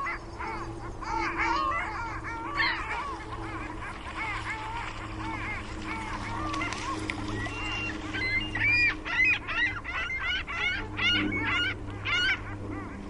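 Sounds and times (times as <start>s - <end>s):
geese honking: 0.0s - 13.0s
steady low hum: 0.0s - 13.0s.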